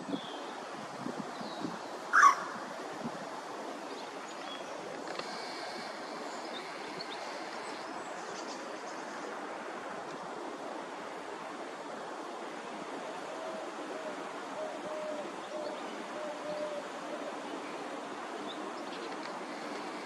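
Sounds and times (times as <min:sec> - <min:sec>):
wind-like outdoor hiss: 0:00.0 - 0:20.0.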